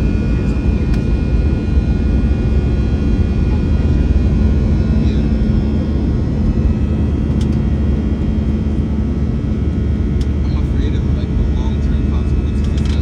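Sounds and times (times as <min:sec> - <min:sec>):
faint steady whining tones: 0:00.0 - 0:13.0
jet engine cabin rumble: 0:00.0 - 0:13.0.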